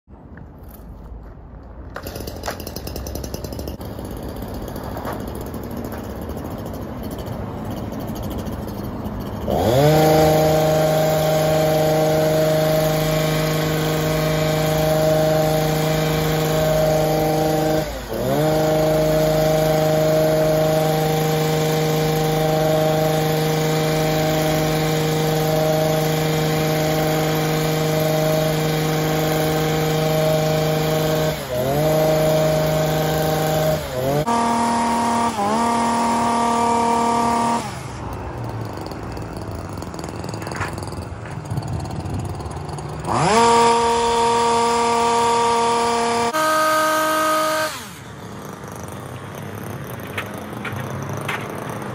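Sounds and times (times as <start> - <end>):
hedge trimmer running: 1.9 - 51.9.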